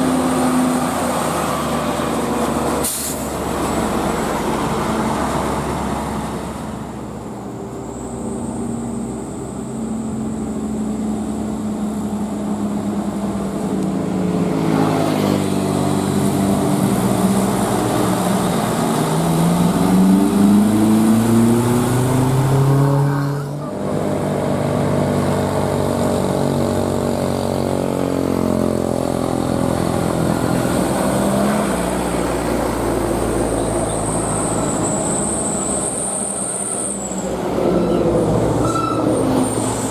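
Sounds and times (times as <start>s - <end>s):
truck diesel engine labouring: 0.0s - 39.9s.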